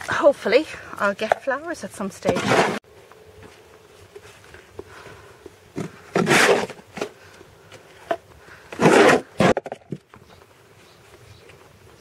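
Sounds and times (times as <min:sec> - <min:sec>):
compost scraping rustles: 0:01.9 - 0:12.0.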